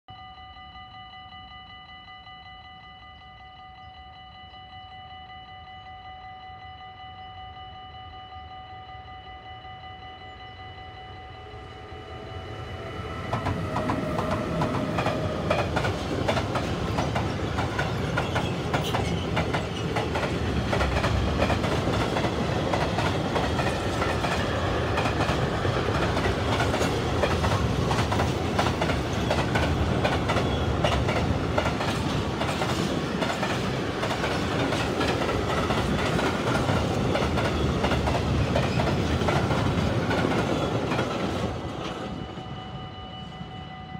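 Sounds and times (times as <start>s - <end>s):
freight train passing: 0.4s - 43.9s.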